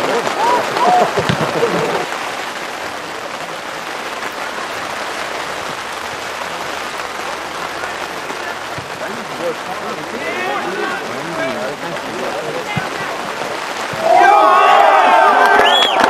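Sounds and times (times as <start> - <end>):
rain on an umbrella: 0.0 - 16.0.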